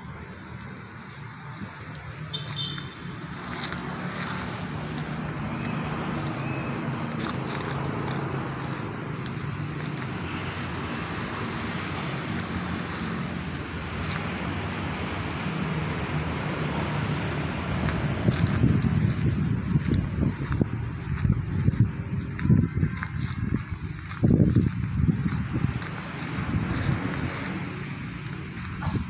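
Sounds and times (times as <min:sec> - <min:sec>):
traffic engine hum: 0:00.0 - 0:29.0.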